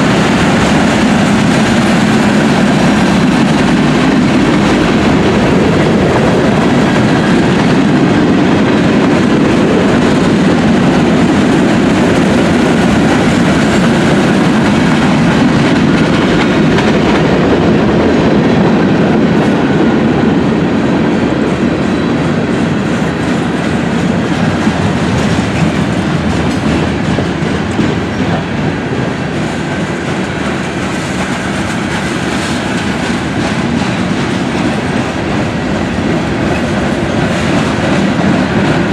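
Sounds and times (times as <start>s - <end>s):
train rumble: 0.0s - 38.9s
train wheels clacking: 0.0s - 38.9s.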